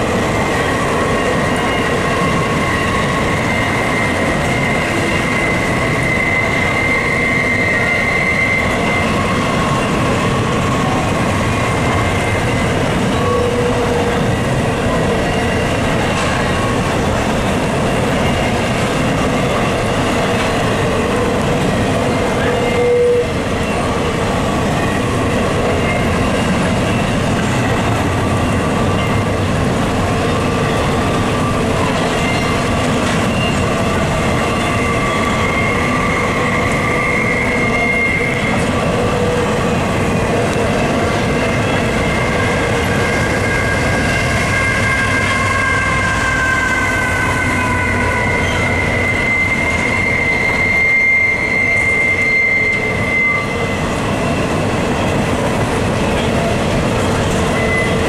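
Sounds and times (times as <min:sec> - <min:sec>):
rumble of train wheels on rail: 0:00.0 - 0:58.0
wheels squealing on rails: 0:00.0 - 0:58.0.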